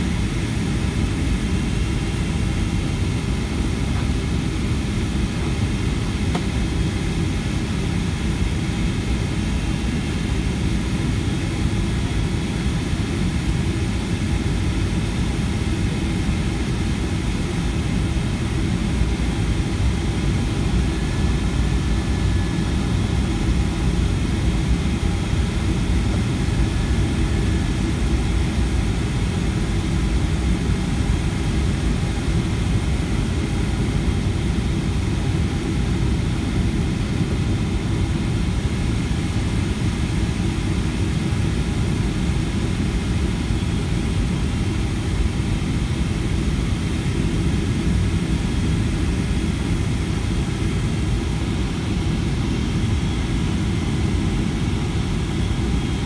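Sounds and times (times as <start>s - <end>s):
airflow and jet engine rumble: 0.0s - 56.0s
faint steady whine: 0.0s - 56.0s.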